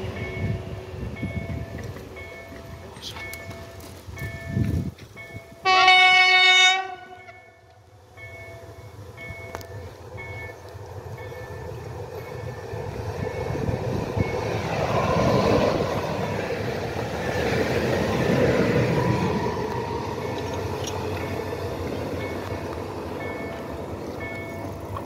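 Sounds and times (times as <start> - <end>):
electric train passing: 0.0 - 25.0.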